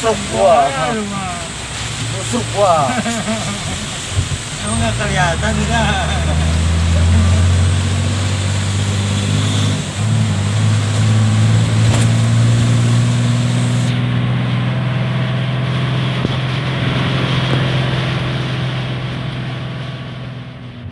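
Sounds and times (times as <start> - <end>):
heavy rain: 0.0 - 20.9
vehicle engine drone: 0.0 - 20.9
wind: 0.0 - 20.9.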